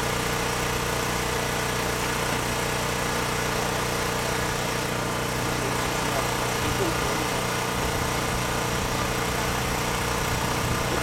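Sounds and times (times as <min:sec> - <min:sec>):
engine humming: 0:01.8 - 0:11.0.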